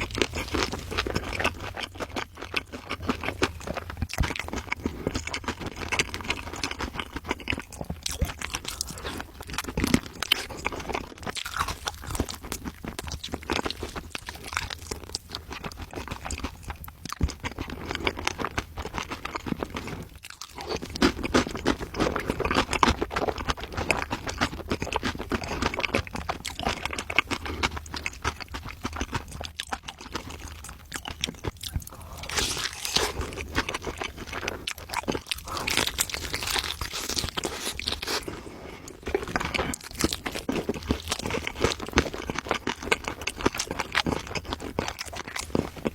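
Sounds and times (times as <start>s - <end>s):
crunching and chewing food: 0.0s - 45.9s.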